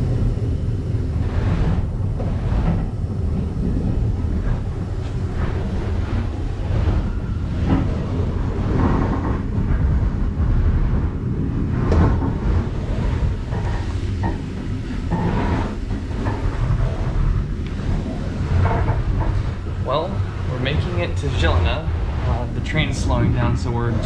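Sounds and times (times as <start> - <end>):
train wheels rumbling on rails: 0.0 - 24.0
knocks and rattles: 1.1 - 24.0.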